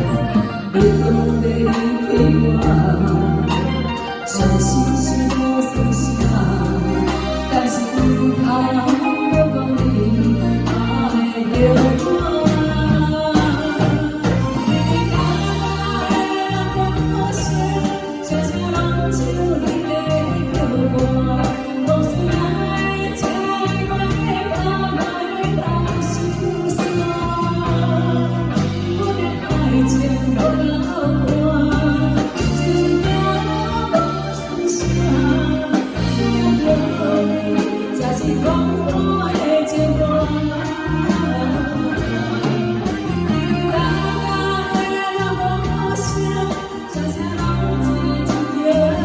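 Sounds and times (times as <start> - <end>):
pop song backing track: 0.0 - 49.0
woman singing: 0.0 - 49.0.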